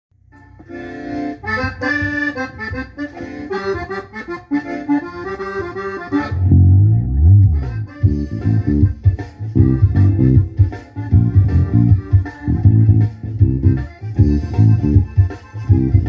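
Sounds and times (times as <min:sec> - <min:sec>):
accordion playing lively melody: 0:00.3 - 0:16.0
electric bass guitar: 0:00.3 - 0:16.0.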